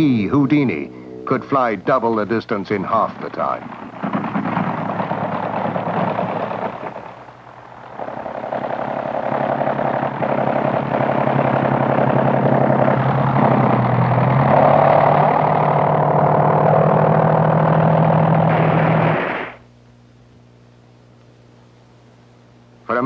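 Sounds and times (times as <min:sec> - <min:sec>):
propeller plane engine buzzing: 0:00.0 - 0:19.6.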